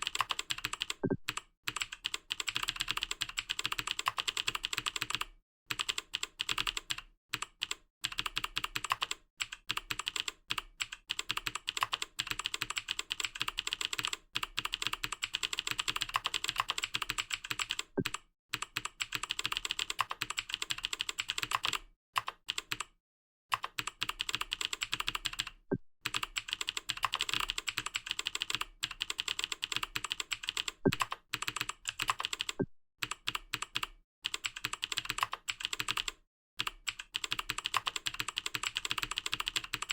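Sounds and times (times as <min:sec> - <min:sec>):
fast typing on keyboard: 0:00.0 - 0:22.9, 0:23.5 - 0:39.9.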